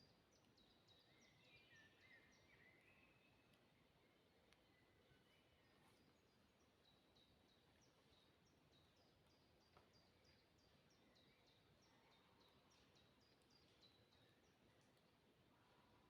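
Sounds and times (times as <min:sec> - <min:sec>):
faint bird song: 0:00.0 - 0:16.0.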